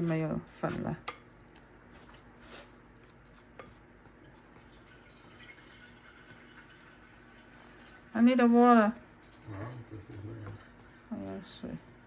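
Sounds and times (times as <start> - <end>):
water dripping into batter: 1.1 - 12.0.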